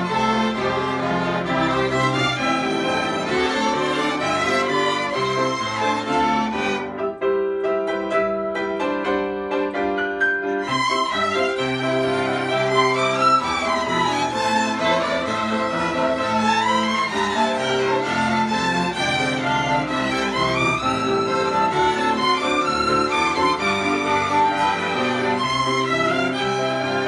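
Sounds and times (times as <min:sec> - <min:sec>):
string ensemble playing: 0:00.0 - 0:27.0.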